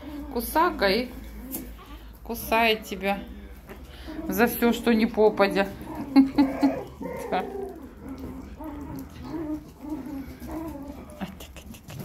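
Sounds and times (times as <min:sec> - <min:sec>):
puppies cooing grunts: 0:00.0 - 0:02.4, 0:03.8 - 0:12.0.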